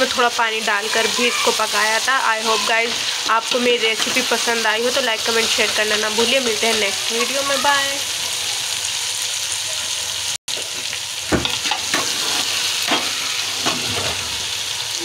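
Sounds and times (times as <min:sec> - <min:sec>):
food sizzling in metal pot: 0:00.0 - 0:15.0.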